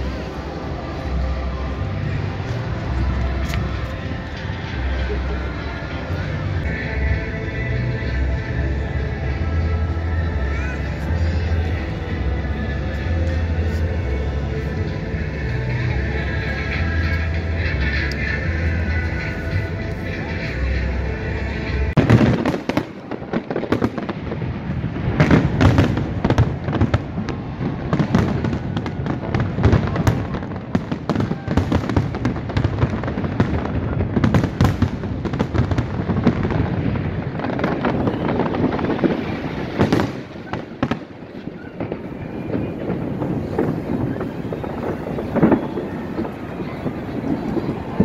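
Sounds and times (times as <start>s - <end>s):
music: 0.0s - 41.0s
fireworks bangs and crackles: 0.0s - 48.0s.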